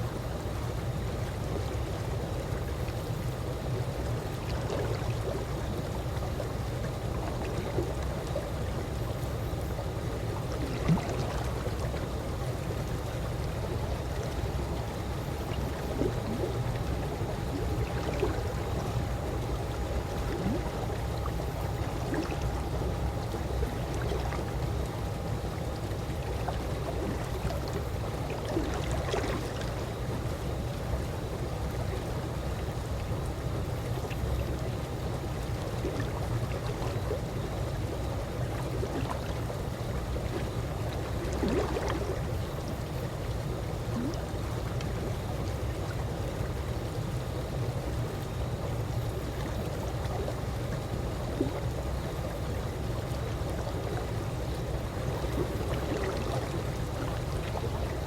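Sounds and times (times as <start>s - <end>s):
pool water lapping: 0.0s - 58.0s
small water splashes: 4.1s - 58.0s.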